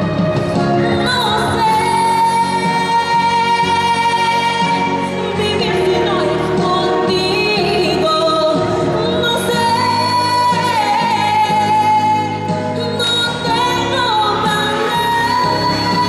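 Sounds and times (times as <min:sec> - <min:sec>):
musical accompaniment: 0:00.0 - 0:16.0
woman singing into a microphone: 0:00.6 - 0:16.0.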